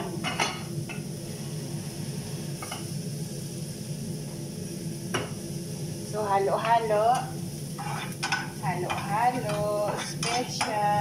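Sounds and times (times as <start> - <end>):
onions frying in a pan: 0.0 - 11.0.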